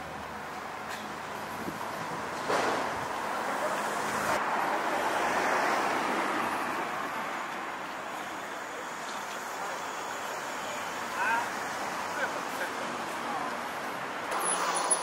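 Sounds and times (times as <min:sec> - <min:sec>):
background traffic: 0:00.0 - 0:15.0
passing car tyre noise: 0:00.1 - 0:15.0.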